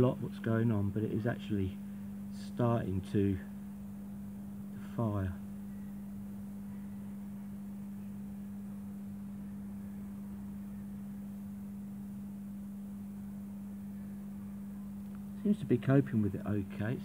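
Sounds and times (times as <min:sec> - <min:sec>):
street lamp humming: 0:00.0 - 0:17.0.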